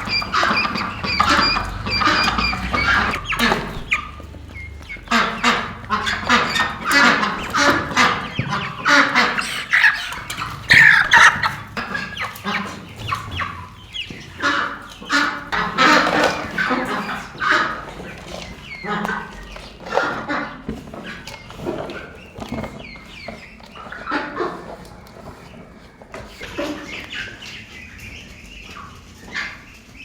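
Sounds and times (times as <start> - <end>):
poultry calling: 0.0 - 30.0.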